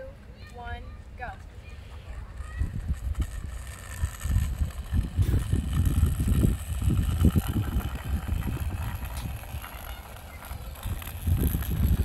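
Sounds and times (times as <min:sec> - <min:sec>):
wind buffeting microphone: 0:02.1 - 0:12.0.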